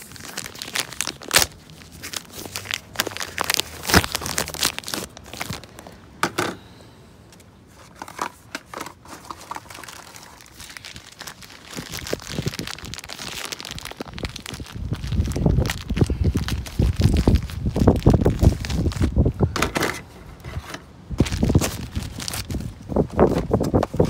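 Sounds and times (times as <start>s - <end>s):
crinkling and scraping: 0.0s - 6.6s, 7.3s - 24.0s.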